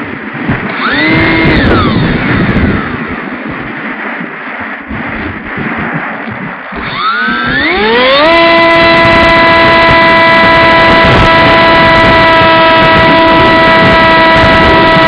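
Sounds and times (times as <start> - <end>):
electric motor and propeller whine: 0.0 - 15.0
rushing air noise: 0.0 - 15.0.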